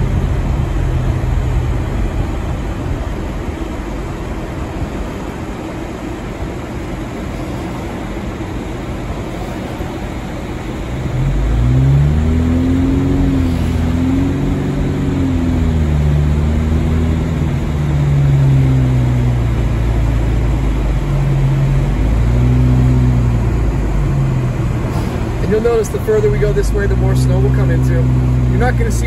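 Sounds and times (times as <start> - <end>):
car engine from inside cabin: 0.0 - 29.0.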